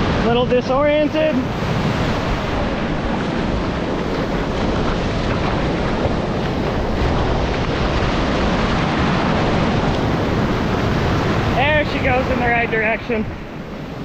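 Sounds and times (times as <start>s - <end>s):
surf breaking in shallows: 0.0s - 14.0s
wind buffeting microphone: 0.0s - 14.0s.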